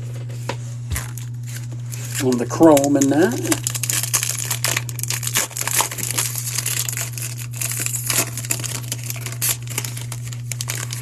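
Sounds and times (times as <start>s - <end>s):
foil wrapper crinkling and tearing: 0.9s - 11.0s.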